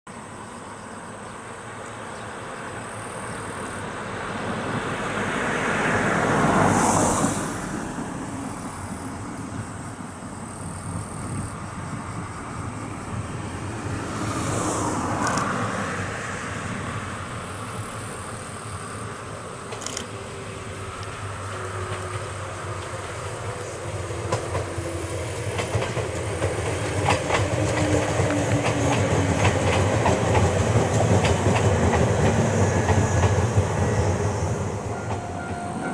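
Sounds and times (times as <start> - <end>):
electric train approaching: 0.2 - 35.9
road vehicles passing by: 0.2 - 35.9.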